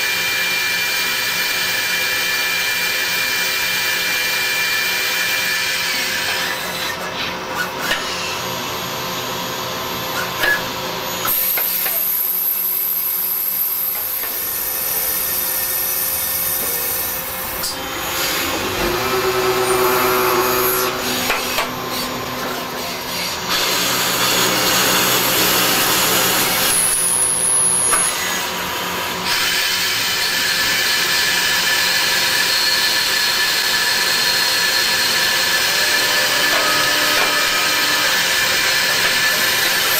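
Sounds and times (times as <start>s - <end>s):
lathe machine running: 0.5s - 39.9s.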